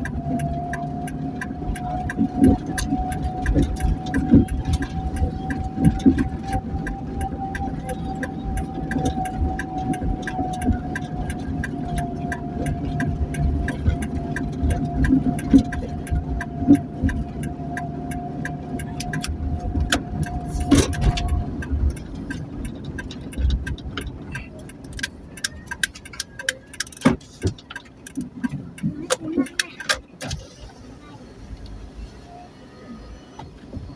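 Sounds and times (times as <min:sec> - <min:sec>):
sharp clicks and rattles: 0:00.0 - 0:30.9
low engine rumble: 0:00.0 - 0:33.9.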